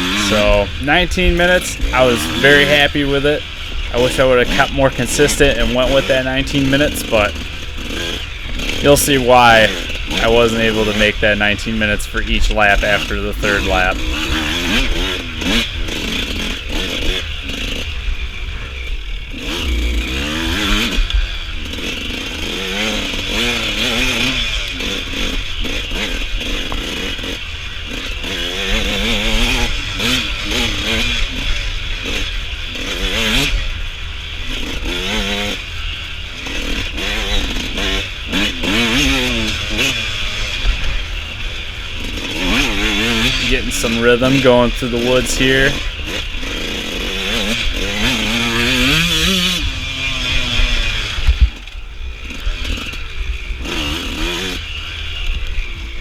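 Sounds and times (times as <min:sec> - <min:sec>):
clatter: 0:00.0 - 0:56.0
dirt bike engine revving: 0:00.0 - 0:56.0
steady rushing noise: 0:00.0 - 0:56.0.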